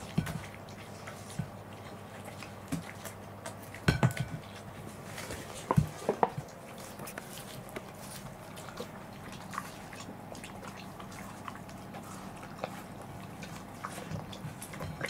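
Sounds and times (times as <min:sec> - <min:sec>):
dogs chewing watermelon: 0:00.0 - 0:15.0.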